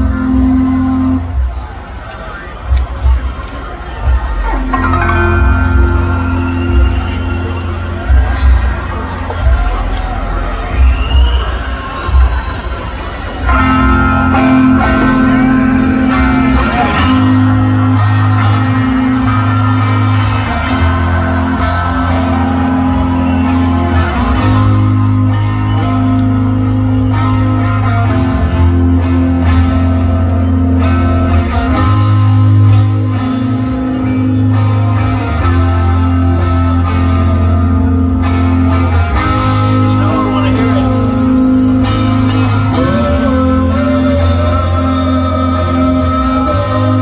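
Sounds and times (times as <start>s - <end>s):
electric guitar sustained notes: 0.0s - 2.9s, 4.0s - 47.0s
live rock band: 0.0s - 47.0s.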